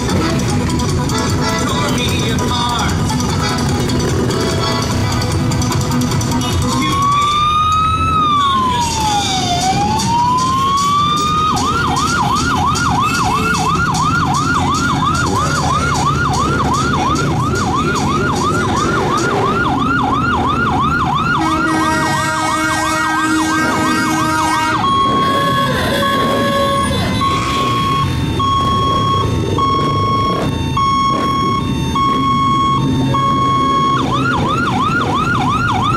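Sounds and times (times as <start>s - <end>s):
electronic siren: 0.0s - 35.9s.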